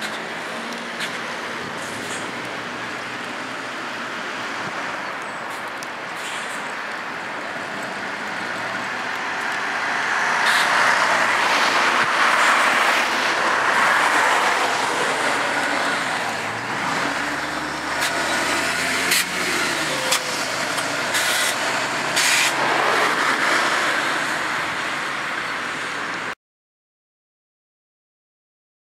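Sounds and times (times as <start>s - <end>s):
bus driving past: 0.0s - 26.4s.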